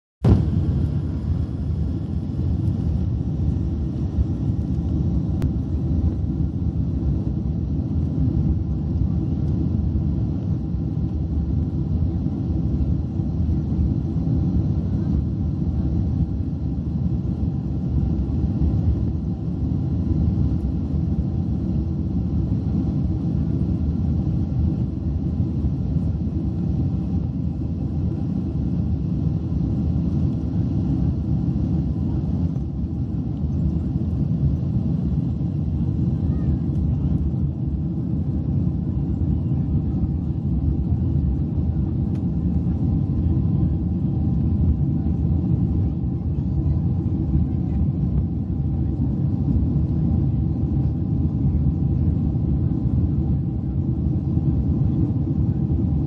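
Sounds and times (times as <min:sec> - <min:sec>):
jet engines low rumble: 0:00.2 - 0:56.0.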